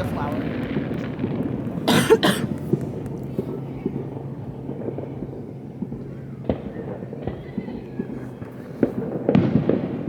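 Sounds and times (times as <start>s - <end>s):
distant fireworks bangs: 0.0s - 10.0s.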